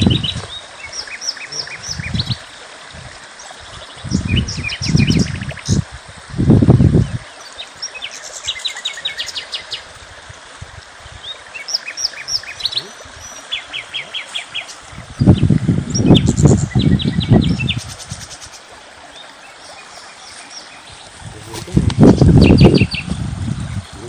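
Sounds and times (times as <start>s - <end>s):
songbirds trilling: 0.0s - 5.9s, 6.8s - 10.0s, 11.0s - 24.0s
steady outdoor hiss: 0.0s - 24.0s.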